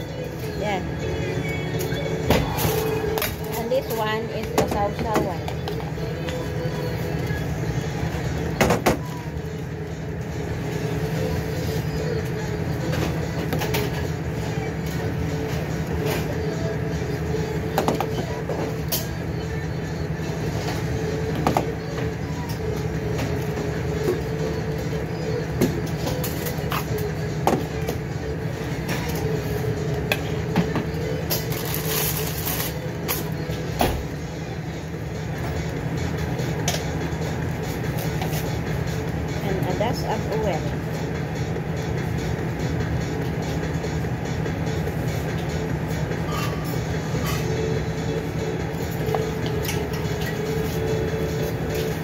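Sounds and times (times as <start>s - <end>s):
kitchen ventilation hum: 0.0s - 52.0s.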